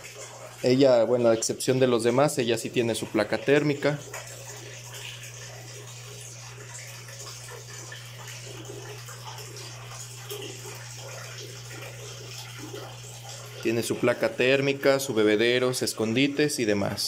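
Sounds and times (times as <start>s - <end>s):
low electrical hum: 0.0s - 17.0s
running water trickling: 0.0s - 17.0s.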